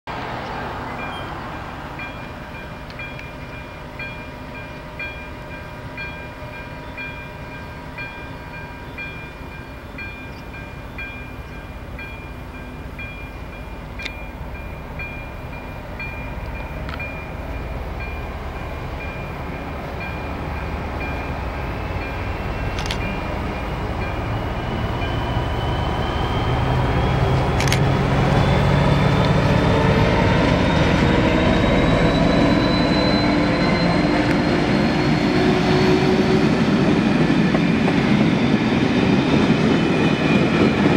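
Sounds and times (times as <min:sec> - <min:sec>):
locomotive diesel engine rumble: 0:00.1 - 0:36.9.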